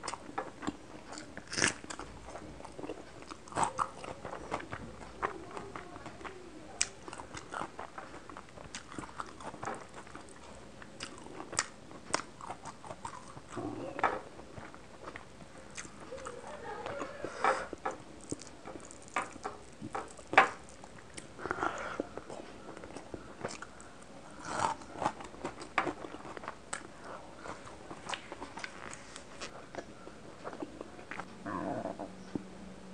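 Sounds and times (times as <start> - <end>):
wet chewing: 0.0 - 31.3.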